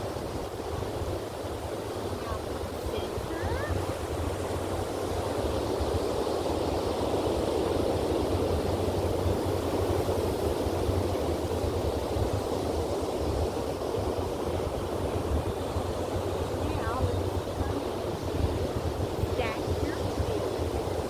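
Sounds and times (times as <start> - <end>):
ocean surf washing on shore: 0.0 - 21.0
wind rumble on microphone: 0.0 - 21.0.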